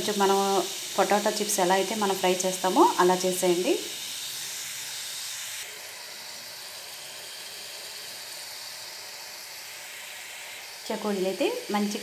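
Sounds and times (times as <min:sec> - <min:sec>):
dough sizzling in hot oil: 0:00.0 - 0:12.0.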